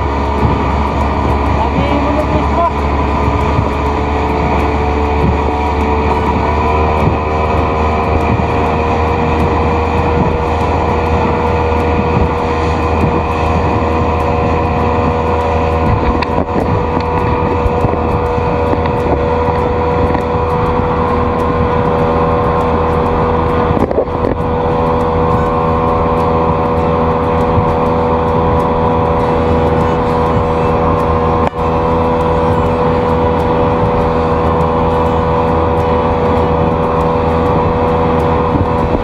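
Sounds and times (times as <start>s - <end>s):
outboard motor running: 0.0s - 39.0s
water rushing: 0.0s - 39.0s
wind: 0.0s - 39.0s.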